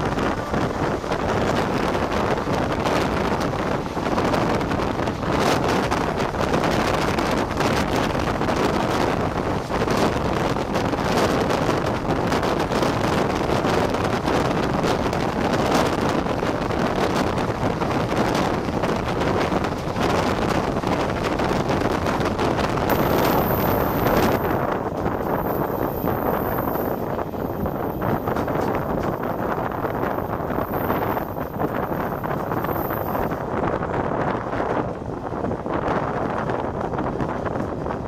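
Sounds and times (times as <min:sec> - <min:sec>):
passenger train running at speed: 0:00.0 - 0:38.0
wind buffeting microphone: 0:00.0 - 0:38.0.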